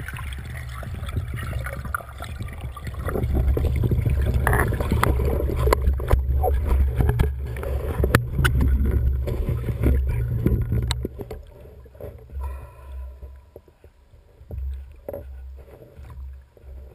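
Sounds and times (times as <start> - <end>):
underwater water rumble: 0.0 - 16.9.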